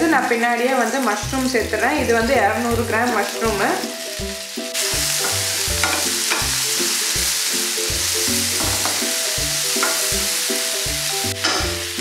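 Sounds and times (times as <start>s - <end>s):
mushrooms sizzling in hot oil: 0.0s - 12.0s
soft background music: 0.0s - 12.0s.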